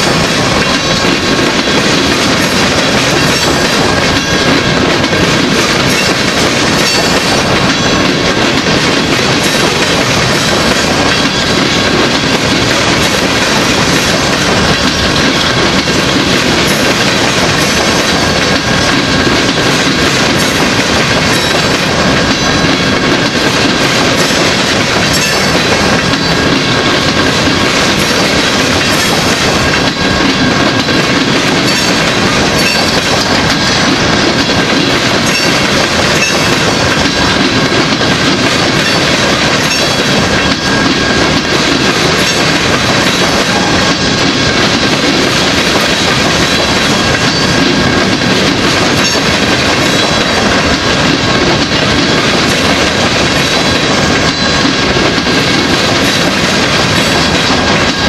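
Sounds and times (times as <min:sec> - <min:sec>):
train cars clattering on rails: 0:00.0 - 0:58.0.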